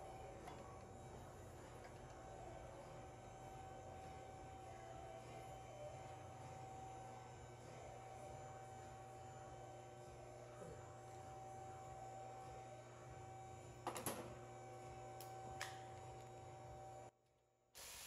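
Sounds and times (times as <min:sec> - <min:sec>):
faint steady hum: 0:00.0 - 0:17.1.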